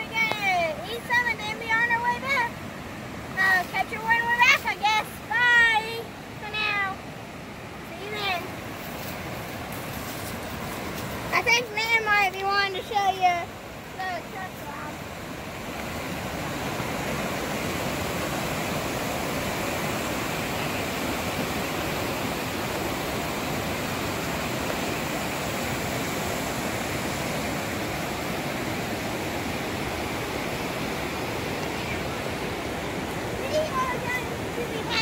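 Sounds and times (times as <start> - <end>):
river rapids rushing over rocks: 0.1 - 35.0.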